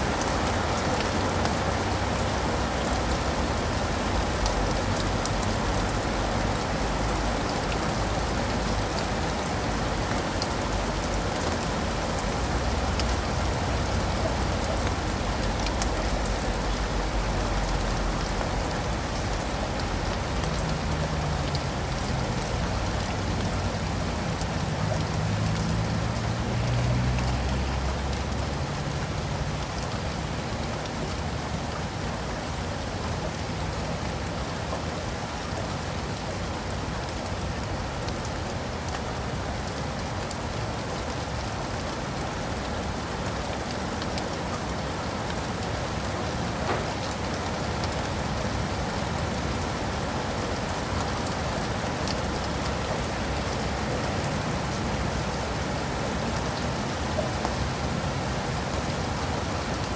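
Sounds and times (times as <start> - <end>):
rain pattering on leaves and pavement: 0.0 - 59.9.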